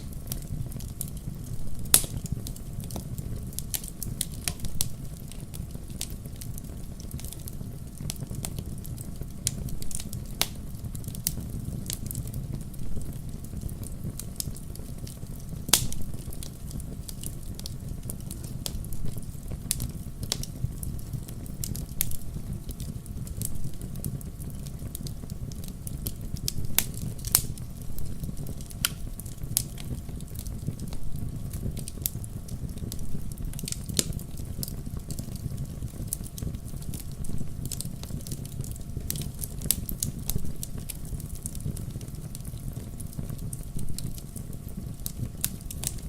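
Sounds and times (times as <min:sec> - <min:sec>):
firewood crackling and popping: 0:00.0 - 0:46.0.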